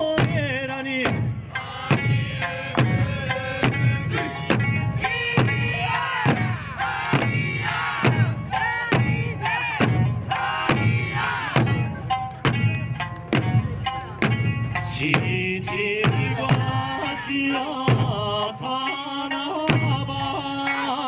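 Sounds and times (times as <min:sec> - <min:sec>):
drums struck in steady beat: 0:00.0 - 0:21.0
folk melody singing: 0:00.0 - 0:21.0.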